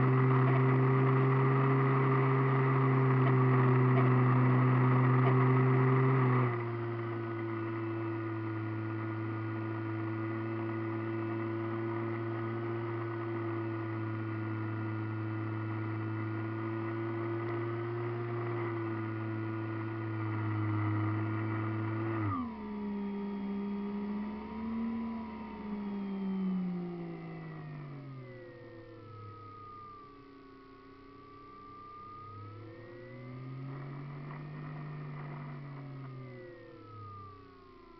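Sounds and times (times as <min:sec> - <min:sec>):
model airplane motor whine: 0:00.0 - 0:37.9.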